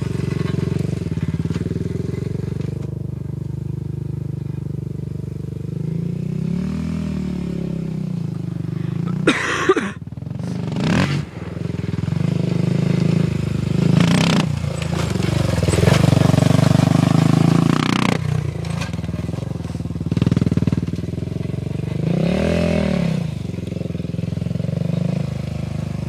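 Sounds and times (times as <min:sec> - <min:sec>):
engine running and revving: 0:00.0 - 0:26.0.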